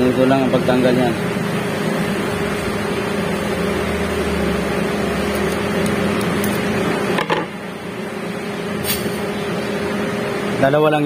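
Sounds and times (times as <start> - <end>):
machine hum with low drone: 0.0 - 11.0.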